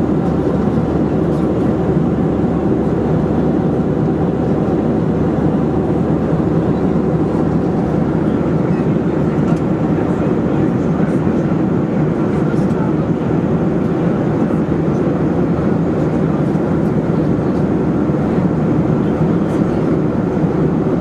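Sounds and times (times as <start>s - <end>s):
airflow rushing in cabin: 0.0s - 21.0s
jet engines droning: 0.0s - 21.0s.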